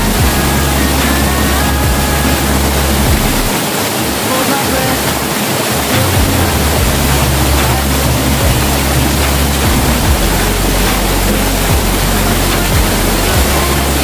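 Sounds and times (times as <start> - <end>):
deep low rumble: 0.0 - 3.6, 6.0 - 14.0
waterfall rushing into pool: 0.0 - 14.0.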